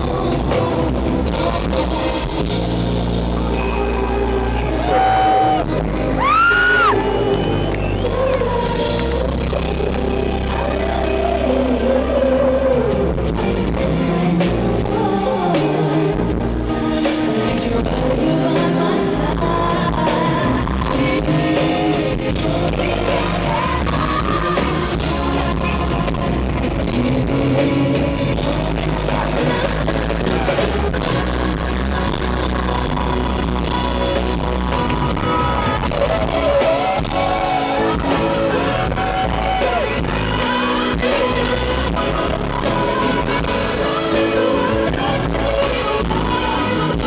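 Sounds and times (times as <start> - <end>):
live band with heavy bass: 0.0 - 47.0
woman singing lead vocal: 0.0 - 47.0.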